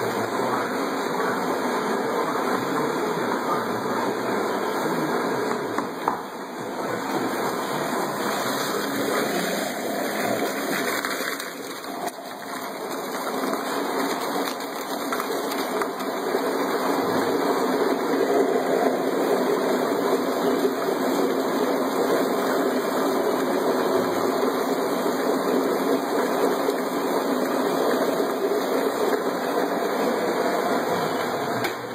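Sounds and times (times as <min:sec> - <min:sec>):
garbage disposal churning ice slush: 0:00.0 - 0:05.5, 0:06.5 - 0:31.9.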